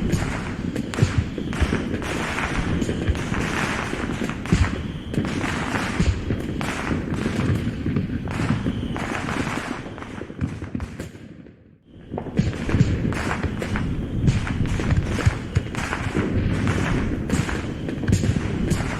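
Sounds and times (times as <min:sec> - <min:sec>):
fireworks booming and crackling: 0:00.0 - 0:18.9.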